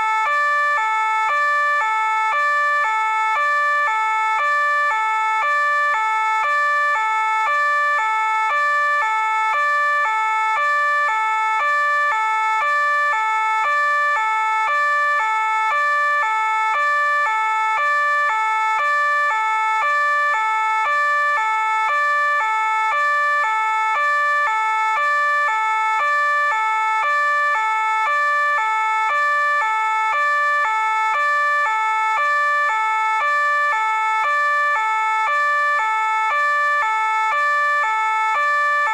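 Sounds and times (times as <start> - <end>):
two-tone police siren: 0.0 - 38.9.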